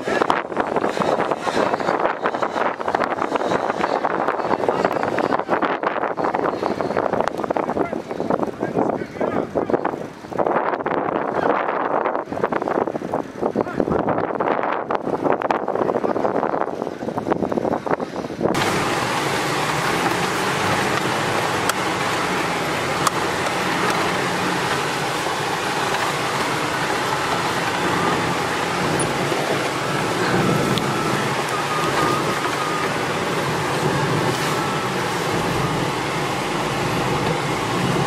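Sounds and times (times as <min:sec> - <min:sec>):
off-road vehicle engine running: 0:00.0 - 0:38.0
road and tyre noise: 0:00.0 - 0:38.0.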